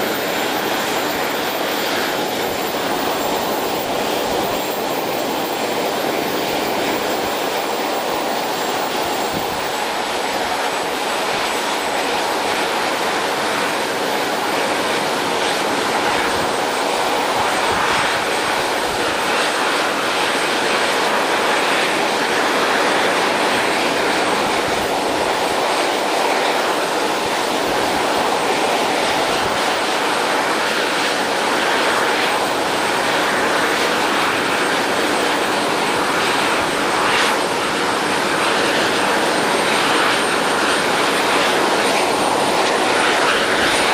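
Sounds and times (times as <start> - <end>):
jet turbine engine rushing: 0.0 - 43.9.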